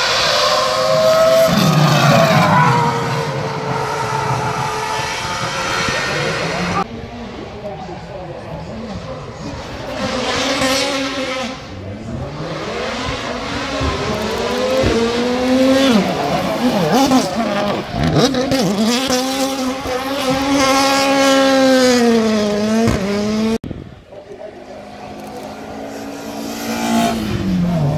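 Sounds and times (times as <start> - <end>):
race car engine revving: 0.0 - 6.9, 8.9 - 23.6, 24.4 - 27.9.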